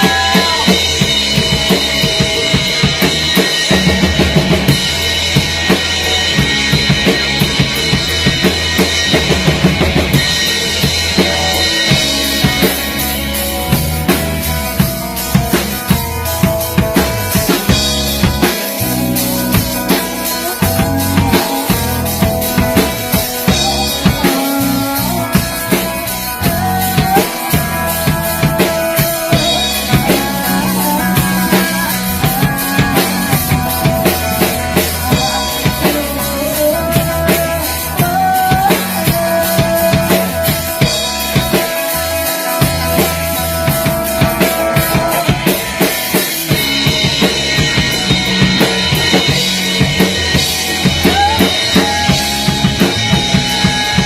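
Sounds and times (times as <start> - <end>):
drum kit beat: 0.0 - 54.0
sliding melody line: 0.0 - 54.0.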